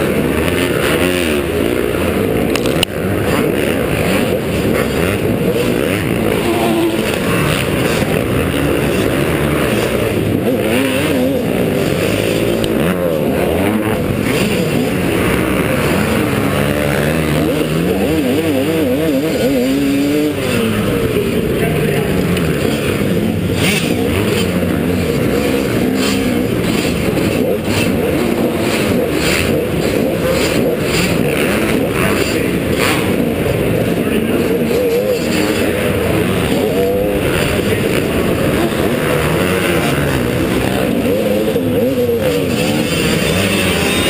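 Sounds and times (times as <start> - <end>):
motocross engine revving: 0.0 - 44.0
other motocross bikes running: 0.0 - 44.0.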